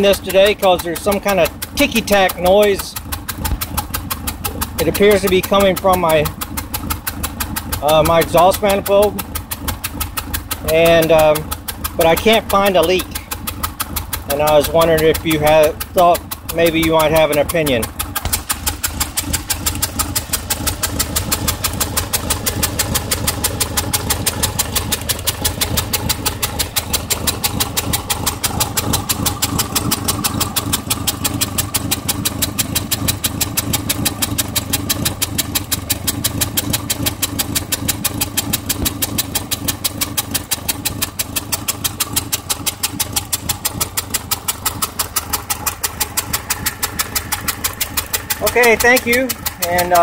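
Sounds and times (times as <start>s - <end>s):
car engine idling: 0.0s - 50.0s
rapid engine ticking: 0.0s - 50.0s.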